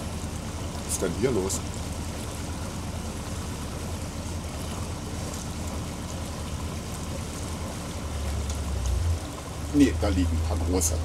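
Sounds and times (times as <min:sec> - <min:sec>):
boat engine humming: 0:00.0 - 0:11.0
water rushing: 0:00.0 - 0:11.0.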